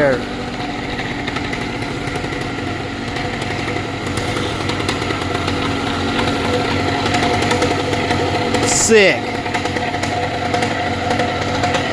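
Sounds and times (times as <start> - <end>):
two-stroke paramotor engine running: 0.0 - 11.9.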